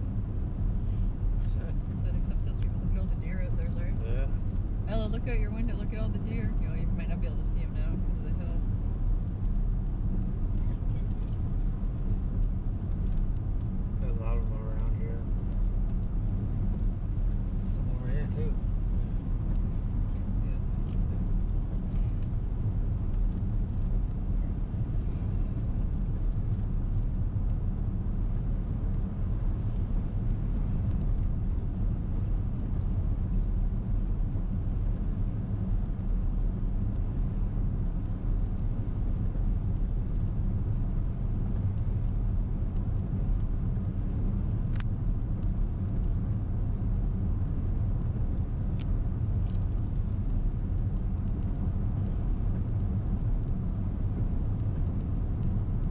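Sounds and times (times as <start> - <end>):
car road and engine noise: 0.0 - 55.9.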